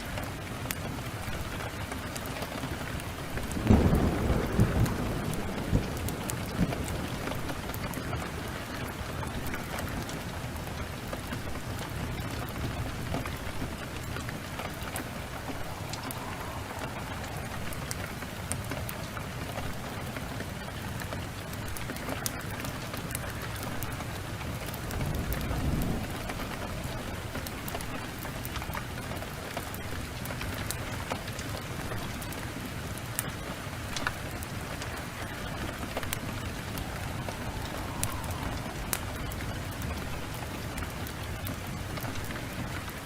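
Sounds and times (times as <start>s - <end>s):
heavy rain: 0.0s - 43.0s
thunder rumble: 0.0s - 43.0s
wood fire crackling: 0.0s - 43.0s.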